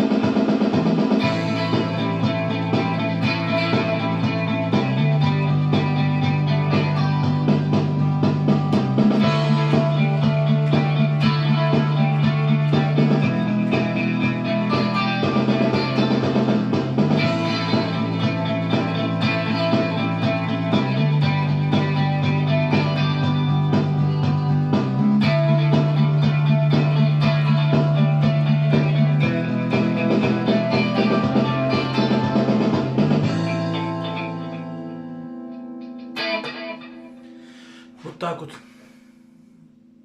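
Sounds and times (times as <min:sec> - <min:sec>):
bass holding long notes: 0:00.0 - 0:35.0
drums: 0:00.0 - 0:35.0, 0:36.2 - 0:39.1
electric guitar: 0:00.0 - 0:40.0.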